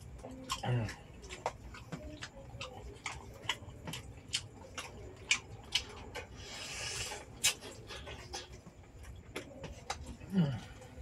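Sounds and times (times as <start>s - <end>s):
wet chewing clicks: 0.0s - 11.0s.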